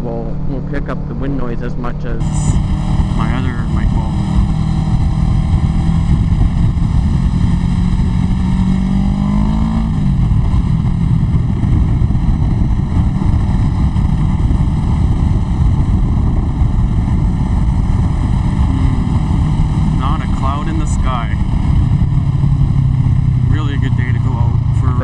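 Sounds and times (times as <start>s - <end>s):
motorcycle engine accelerating: 0.0s - 25.0s
wind buffeting microphone: 0.0s - 25.0s.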